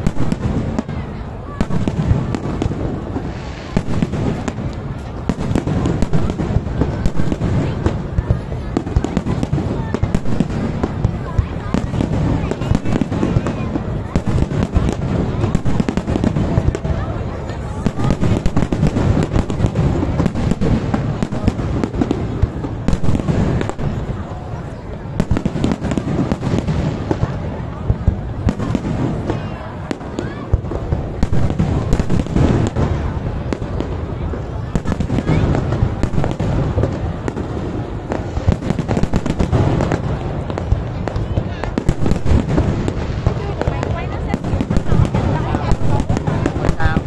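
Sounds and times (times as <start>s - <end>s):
fireworks cracking: 0.0s - 47.0s
low rumble of explosions: 0.0s - 47.0s.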